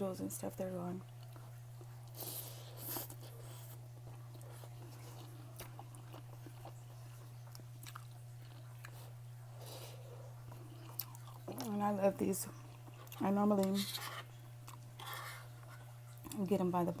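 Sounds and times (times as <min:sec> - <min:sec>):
steady low hum: 0:00.0 - 0:17.0
person chewing food: 0:01.0 - 0:11.7, 0:12.6 - 0:16.4.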